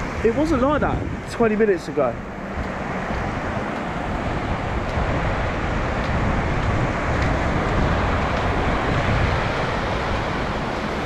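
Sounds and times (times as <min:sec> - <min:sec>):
surf rumbling: 0:00.0 - 0:11.0
wind on microphone: 0:00.0 - 0:11.0.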